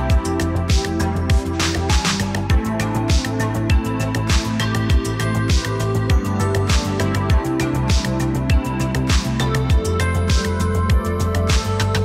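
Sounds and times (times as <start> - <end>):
deep kick drum: 0.0 - 11.8.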